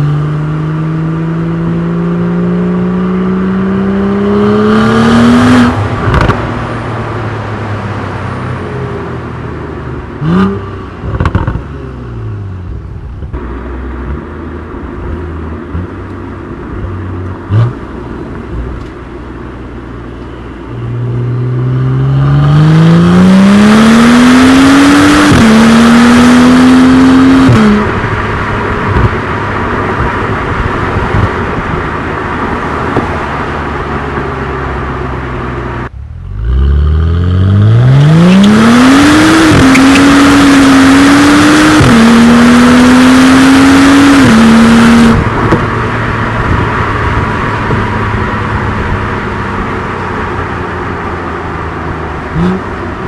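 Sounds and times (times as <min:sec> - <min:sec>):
car engine accelerating hard: 0:00.0 - 0:12.4, 0:20.7 - 0:53.0.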